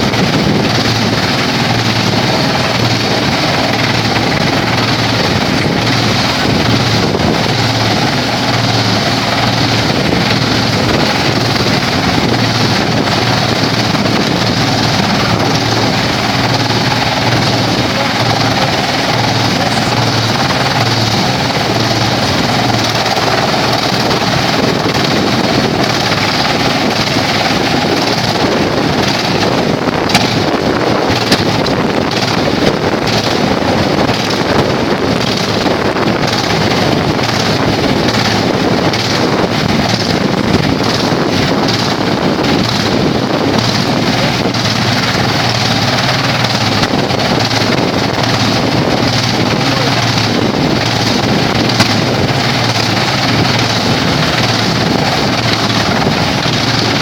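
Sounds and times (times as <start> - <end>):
wood chipper running: 0.0 - 57.0.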